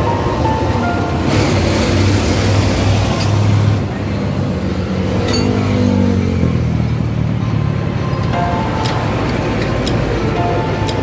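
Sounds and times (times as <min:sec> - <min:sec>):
vehicle engine passing: 0:00.2 - 0:11.0.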